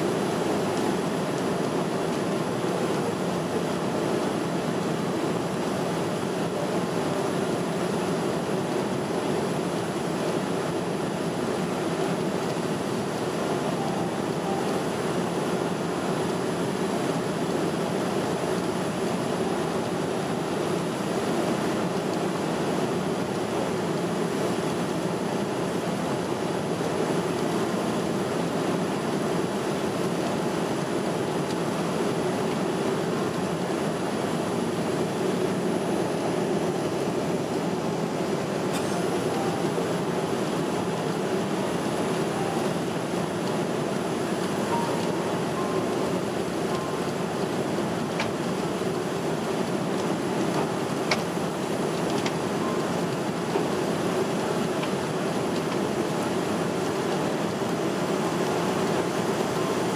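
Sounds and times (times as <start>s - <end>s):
airliner cabin noise: 0.1s - 59.9s.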